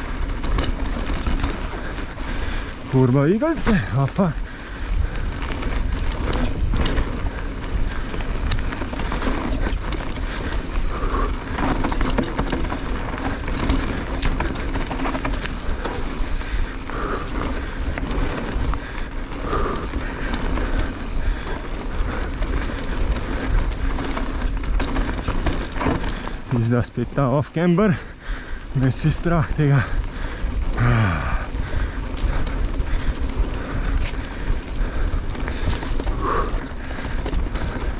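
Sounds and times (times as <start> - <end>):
wind rumble on microphone: 0.0 - 26.7, 28.3 - 37.9
bike rattling over bumps: 0.0 - 37.9
bike tyres rolling over dirt: 0.0 - 37.9.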